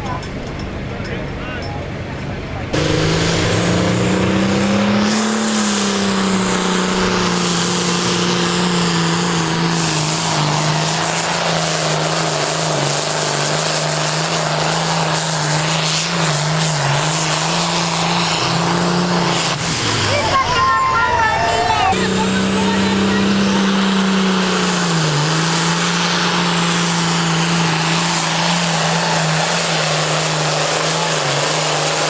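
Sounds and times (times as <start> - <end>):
tractor engine at high revs: 1.9 - 32.0.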